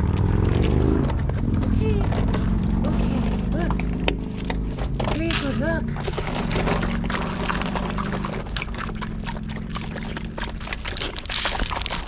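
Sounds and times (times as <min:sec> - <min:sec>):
dogs crunching dry kibble: 0:00.0 - 0:12.0.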